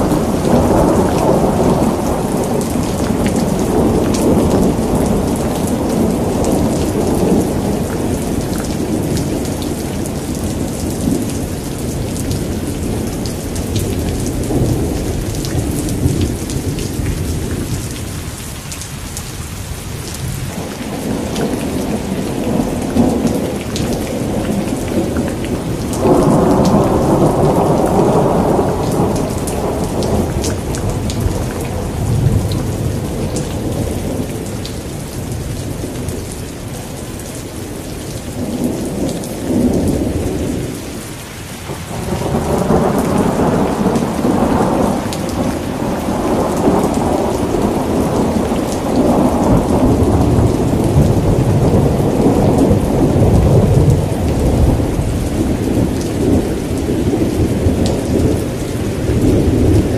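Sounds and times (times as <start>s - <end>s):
rolling thunder: 0.0s - 18.2s, 20.2s - 36.9s, 41.6s - 59.9s
steady rain: 0.0s - 59.9s.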